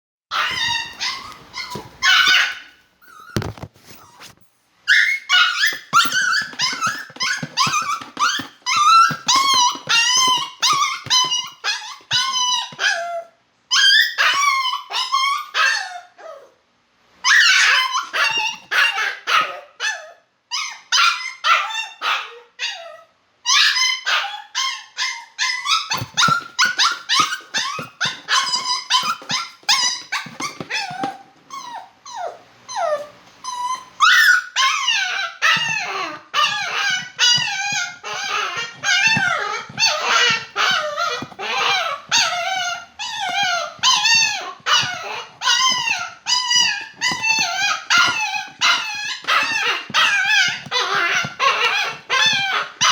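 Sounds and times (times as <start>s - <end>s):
dog whining and yelping: 0.3s - 4.3s, 4.9s - 16.6s, 17.2s - 52.9s.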